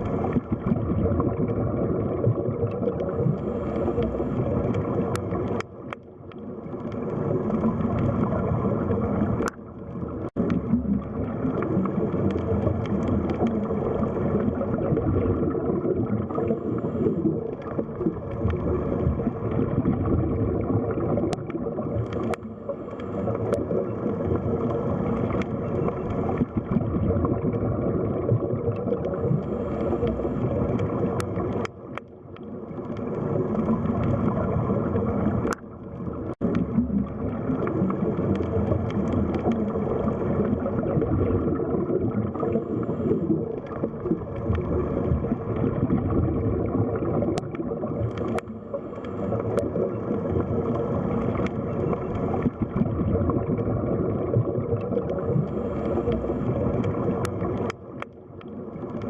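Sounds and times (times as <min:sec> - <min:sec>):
underwater water wash: 0:00.0 - 0:59.0.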